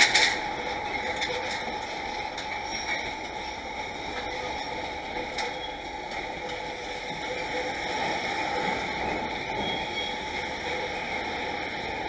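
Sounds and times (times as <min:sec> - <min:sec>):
rail yard background noise: 0:00.0 - 0:12.0.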